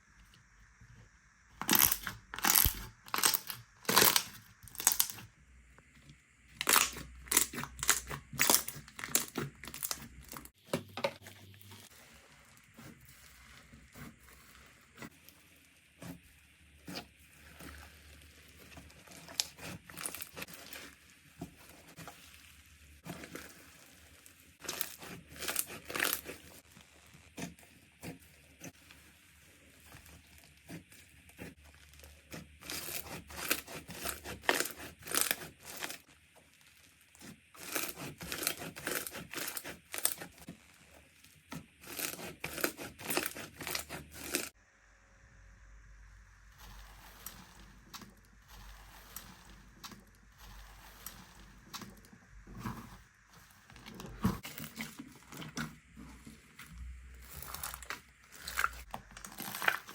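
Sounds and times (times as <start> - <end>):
slime squishing: 1.6 - 5.3, 6.5 - 44.6, 46.5 - 59.9.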